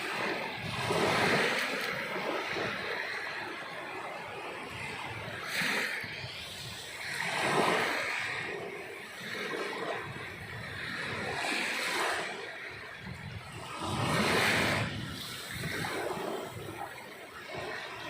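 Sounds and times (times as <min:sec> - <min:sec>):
rush of surf: 0:00.0 - 0:18.0
sea waves washing in: 0:00.0 - 0:18.0.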